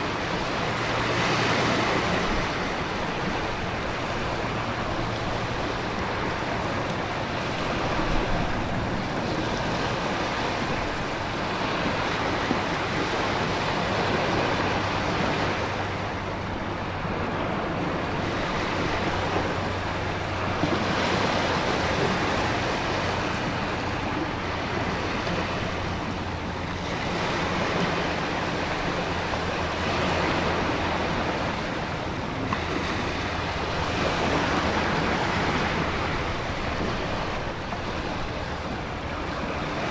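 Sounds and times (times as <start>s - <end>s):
waves crashing on rocks: 0.0s - 39.9s
wind: 0.0s - 39.9s.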